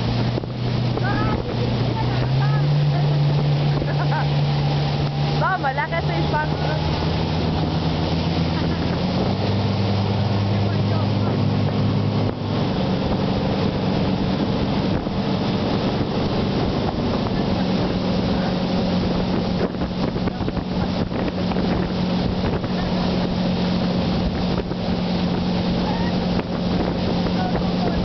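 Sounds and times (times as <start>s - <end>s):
motorboat engine running: 0.0s - 28.0s
rush of churning wake: 0.0s - 28.0s
wind on microphone: 0.0s - 28.0s.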